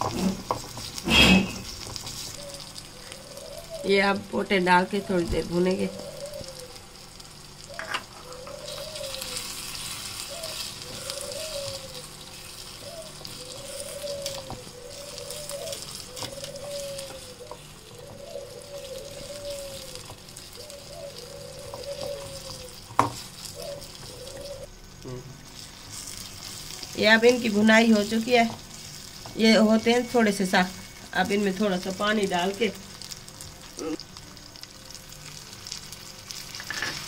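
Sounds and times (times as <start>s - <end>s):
food sizzling in a wok: 0.0s - 37.0s.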